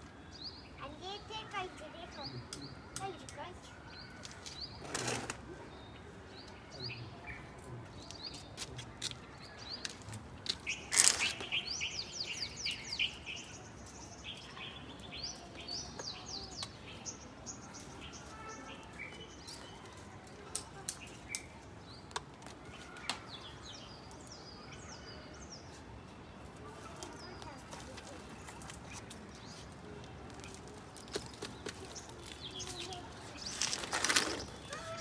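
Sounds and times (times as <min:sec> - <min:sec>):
small birds chirping: 0:00.3 - 0:25.9, 0:26.5 - 0:35.0.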